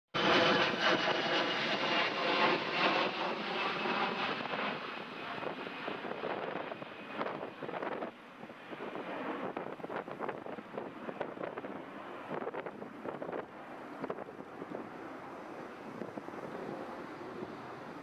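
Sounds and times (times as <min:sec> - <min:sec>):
airplane engines whining: 0:00.2 - 0:18.0.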